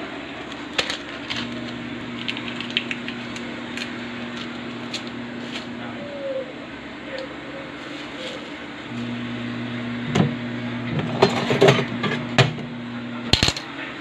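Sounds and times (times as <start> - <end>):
low electric hum: 0.0 - 14.0.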